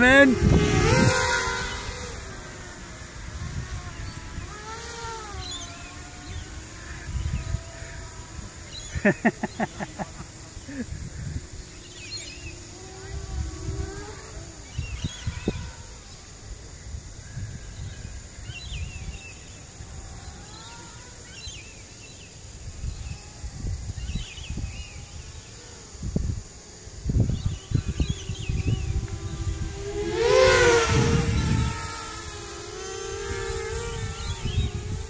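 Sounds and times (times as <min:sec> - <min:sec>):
wind buffeting microphone: 0:00.0 - 0:20.5, 0:22.6 - 0:35.0
quadcopter motors whining: 0:00.0 - 0:35.0.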